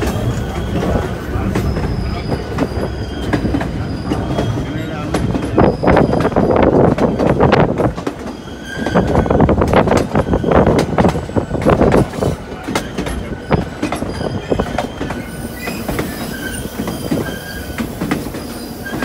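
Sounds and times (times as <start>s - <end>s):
metallic wheel squeals: 0.0s - 7.6s, 8.2s - 19.0s
train wheels clattering on rails: 0.0s - 19.0s.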